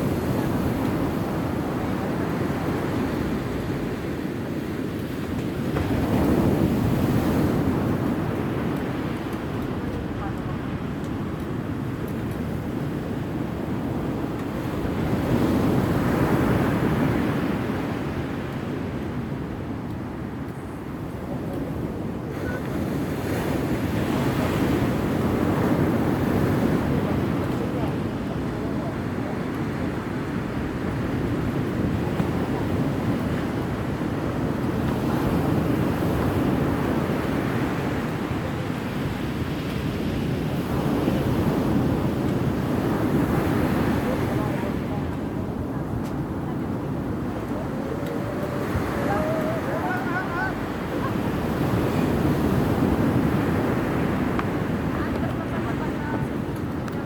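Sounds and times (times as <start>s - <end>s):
surf washing on shore: 0.0s - 57.0s
wind rumbling on microphone: 0.0s - 57.0s.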